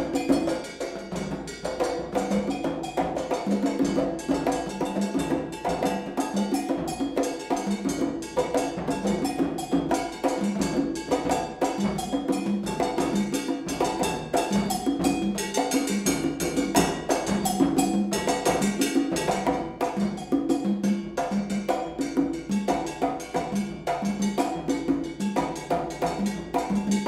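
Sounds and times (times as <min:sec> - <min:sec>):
percussion ensemble drumming: 0:00.0 - 0:27.0.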